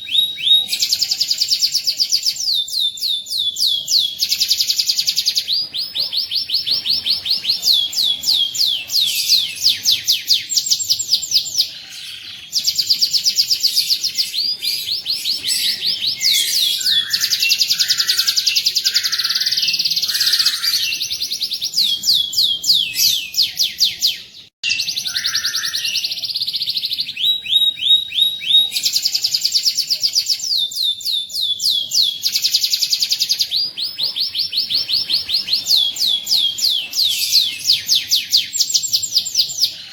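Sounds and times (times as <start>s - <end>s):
canary chirps: 0.0s - 39.9s
canary singing trills: 0.0s - 39.9s.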